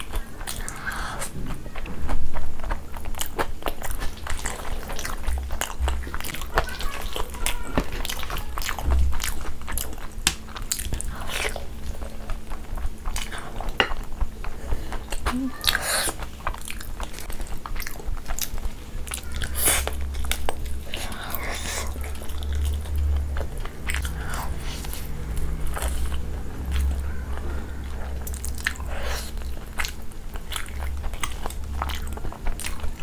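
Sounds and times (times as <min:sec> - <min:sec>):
chewing and crunching: 0:00.0 - 0:33.0.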